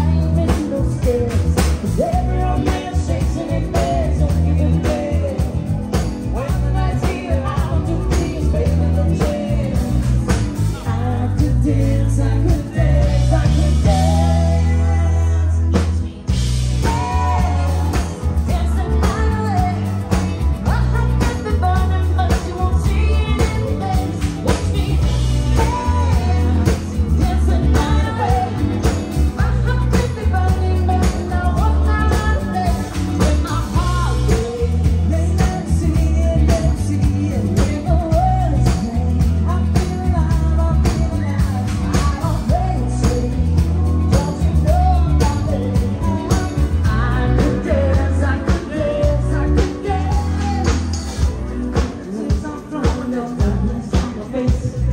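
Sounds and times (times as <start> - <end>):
drums and cymbals: 0.0 - 54.9
heavy bass line: 0.0 - 54.9
lead vocals singing: 0.0 - 54.9.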